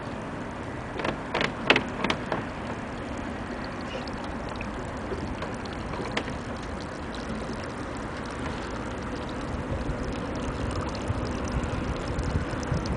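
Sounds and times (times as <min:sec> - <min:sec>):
faint steady hum: 0:00.0 - 0:12.9
harbour rumble and hiss: 0:00.0 - 0:12.9.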